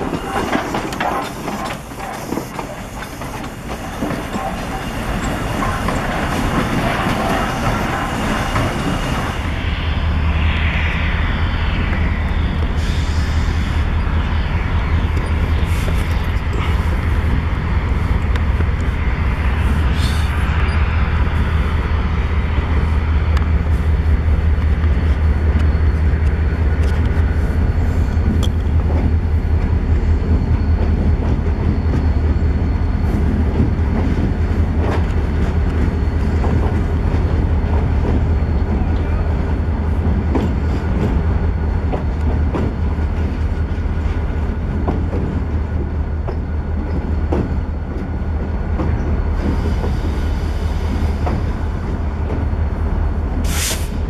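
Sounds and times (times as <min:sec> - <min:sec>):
train clicks: 0:00.0 - 0:09.4, 0:15.0 - 0:54.0
train rumble: 0:00.0 - 0:54.0.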